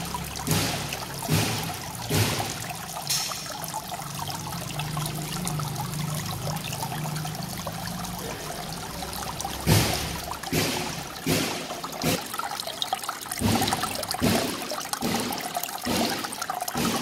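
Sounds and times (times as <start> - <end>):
fountain water trickling: 0.0 - 17.0.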